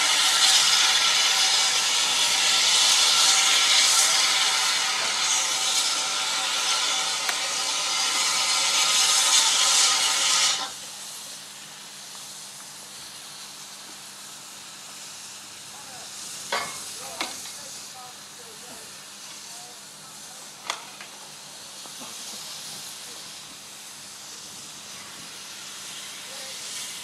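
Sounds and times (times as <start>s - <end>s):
locomotive steam hissing: 0.0s - 27.0s.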